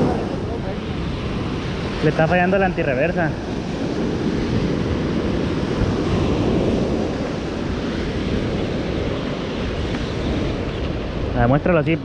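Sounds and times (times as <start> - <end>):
surf rushing at shoreline: 0.0 - 12.0
wind buffeting microphone: 0.0 - 12.0.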